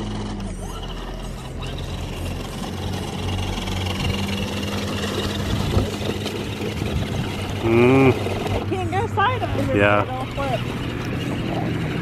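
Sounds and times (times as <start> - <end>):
toy car electric motor whining: 0.0 - 12.0.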